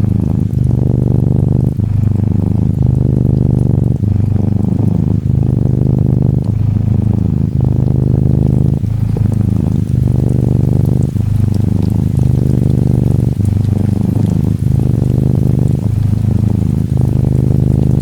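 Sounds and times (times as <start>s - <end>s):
gentle rain patter: 0.0s - 18.0s
kitten purring: 0.0s - 18.0s.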